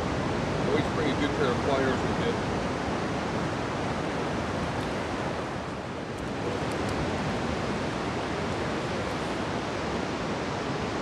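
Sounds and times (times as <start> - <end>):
ocean surf: 0.0 - 11.0.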